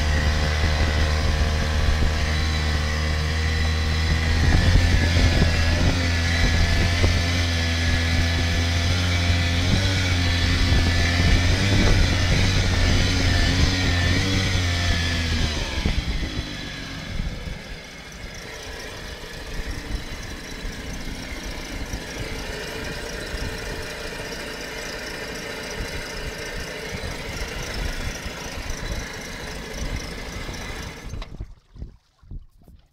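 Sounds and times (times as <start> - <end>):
outboard motor running: 0.0 - 32.9.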